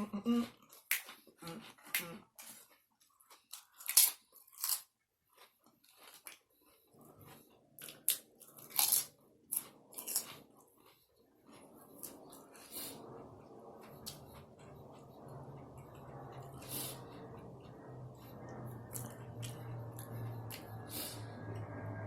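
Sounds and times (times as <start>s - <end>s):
person chewing crunchy food: 0.3s - 22.0s.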